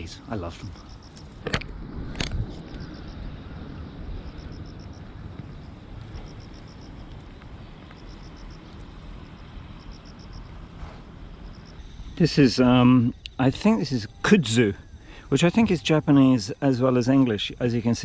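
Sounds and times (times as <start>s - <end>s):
insect chirping: 0.0s - 18.0s
low rumble of wind or traffic: 0.0s - 18.0s.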